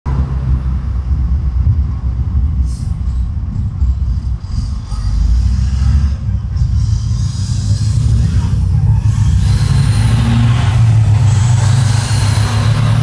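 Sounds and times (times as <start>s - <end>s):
loud low roadside rumble: 0.1s - 13.0s.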